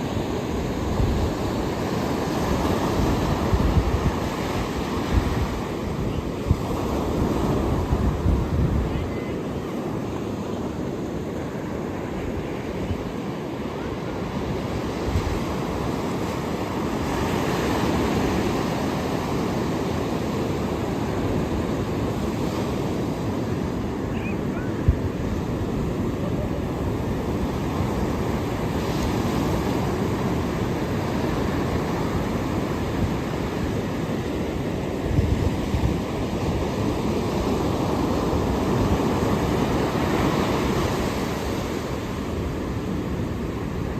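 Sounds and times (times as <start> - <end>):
wind buffeting microphone: 0.0 - 9.1, 14.3 - 43.9
ocean surf washing ashore: 0.0 - 43.9.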